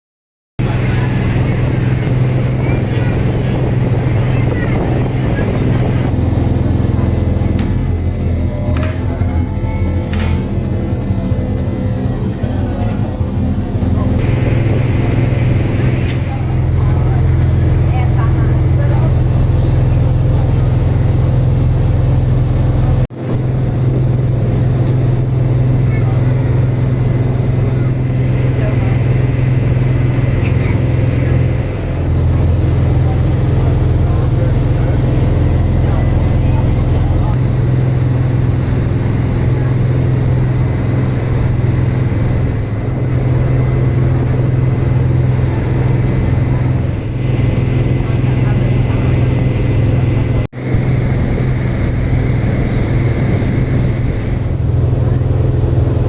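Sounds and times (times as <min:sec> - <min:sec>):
boat engine droning: 0:00.6 - 0:56.0.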